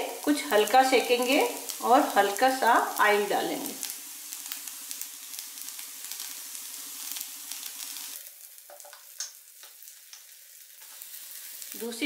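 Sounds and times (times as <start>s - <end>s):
oil sizzling with crackles and pops: 0.0s - 12.0s.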